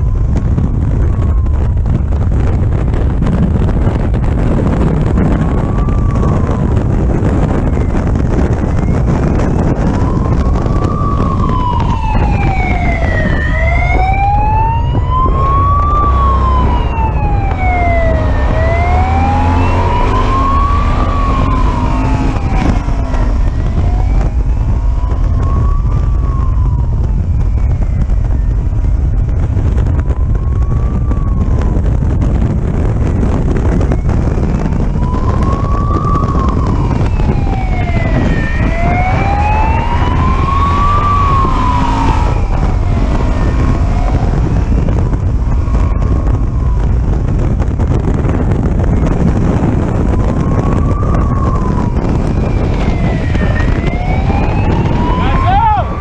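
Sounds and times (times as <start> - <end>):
engine and road rumble: 0.0 - 56.0
police siren wailing: 0.0 - 56.0.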